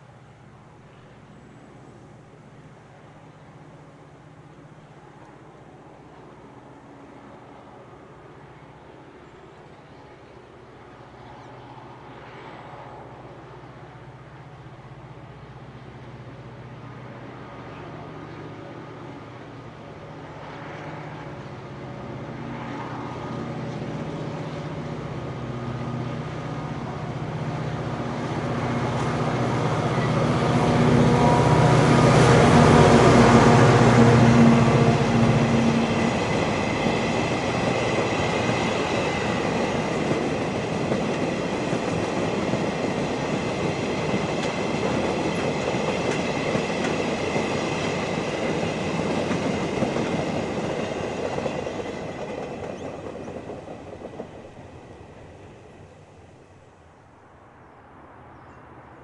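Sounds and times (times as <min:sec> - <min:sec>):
diesel locomotive engine passing: 0:00.0 - 0:58.9.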